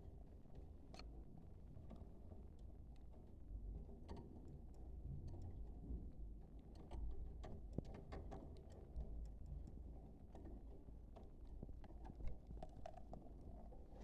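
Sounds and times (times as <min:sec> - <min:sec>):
small clicks and taps: 0:01.9 - 0:14.0.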